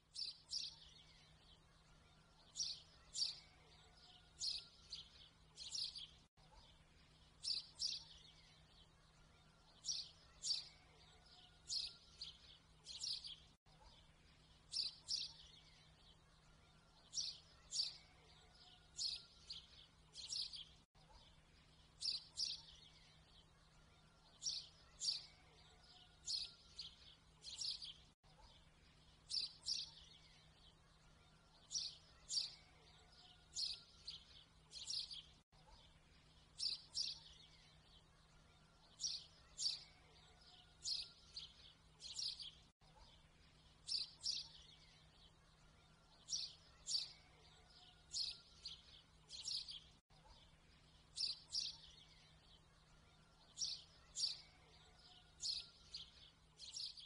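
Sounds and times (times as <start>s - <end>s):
birds chirping: 0.1s - 57.0s.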